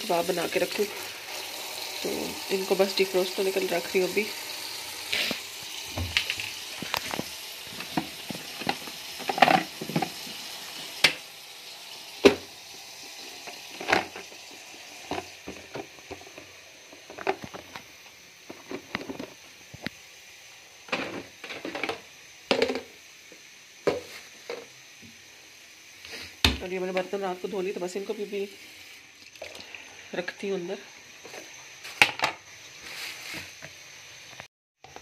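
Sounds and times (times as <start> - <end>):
faint steady hiss: 0.0 - 35.0.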